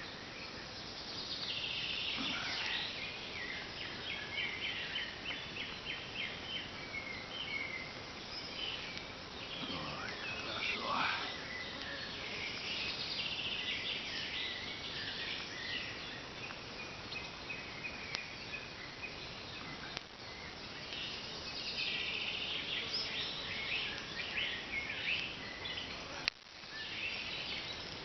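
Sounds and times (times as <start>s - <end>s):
birds calling: 0.0s - 28.0s
insects chirping: 0.0s - 28.0s
steady background hiss: 0.0s - 28.0s.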